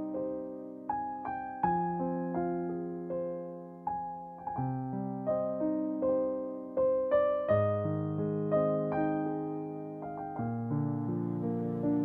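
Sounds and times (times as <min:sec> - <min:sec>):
gentle piano tune: 0:00.0 - 0:12.0.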